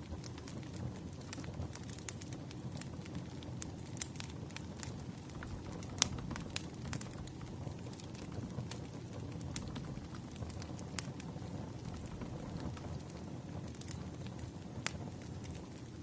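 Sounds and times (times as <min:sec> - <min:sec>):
fire pops and snaps: 0:00.0 - 0:16.0
rush of flames: 0:00.0 - 0:16.0.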